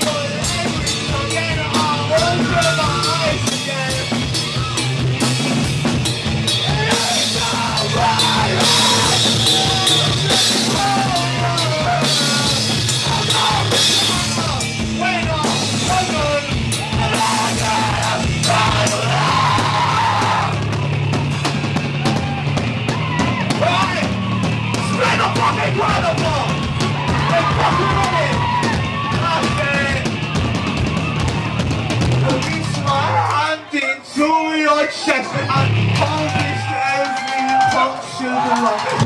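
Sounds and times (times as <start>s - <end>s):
drum kit with crashing cymbals: 0.0s - 33.1s
bass guitar: 0.0s - 33.4s, 35.2s - 39.0s.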